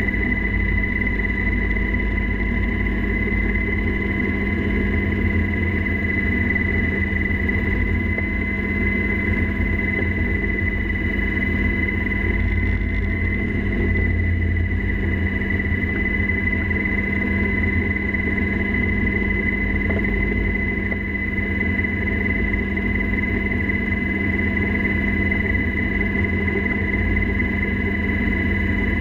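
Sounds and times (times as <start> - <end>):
helicopter cabin drone: 0.0 - 29.0.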